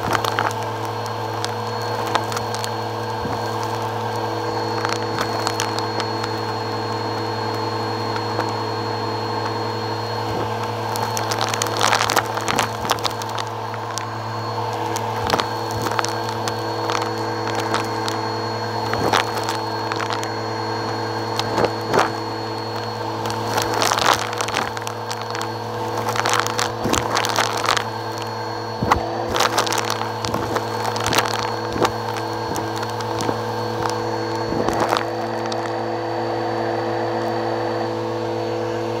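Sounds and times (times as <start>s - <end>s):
debris rattling up vacuum hose: 0.0s - 39.0s
vacuum cleaner motor hum: 0.0s - 39.0s.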